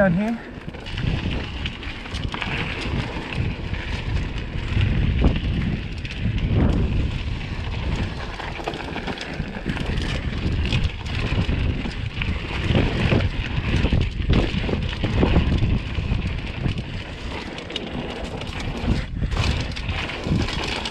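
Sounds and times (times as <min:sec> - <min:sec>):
bike rattling over rough ground: 0:00.0 - 0:20.9
wind buffeting microphone: 0:00.0 - 0:20.9.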